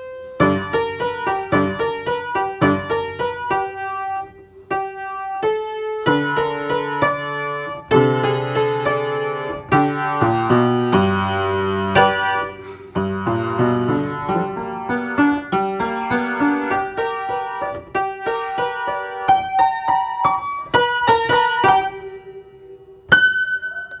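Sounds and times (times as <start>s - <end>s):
piano-like keyboard music: 0.0s - 24.0s.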